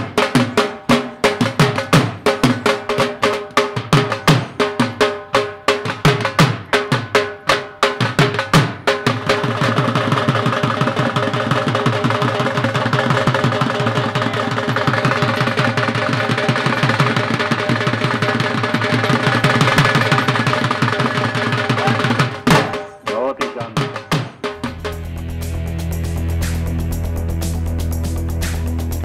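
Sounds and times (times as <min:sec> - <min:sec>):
fast drum roll: 0:00.0 - 0:29.0.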